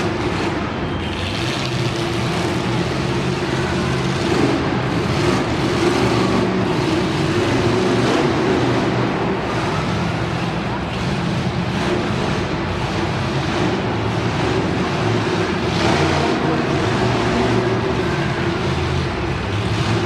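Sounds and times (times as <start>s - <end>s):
truck engine running loudly: 0.0s - 20.0s.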